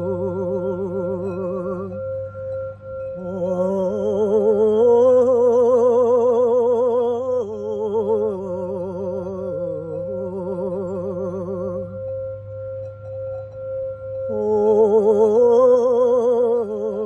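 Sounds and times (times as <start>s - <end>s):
woman singing wordless tone: 0.0s - 2.2s, 3.2s - 12.2s, 14.2s - 17.0s
crystal singing bowl ringing: 0.0s - 17.0s.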